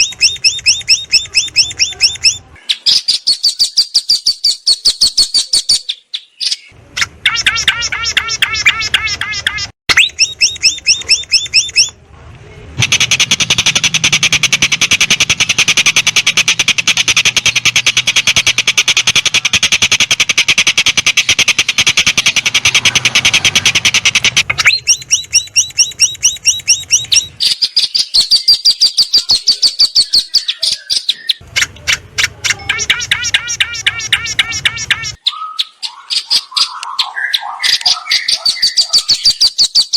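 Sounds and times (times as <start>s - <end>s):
bird chattering rattle: 0.0s - 5.8s, 6.9s - 12.0s, 12.8s - 39.9s
songbirds trilling: 0.0s - 12.0s, 12.8s - 39.9s.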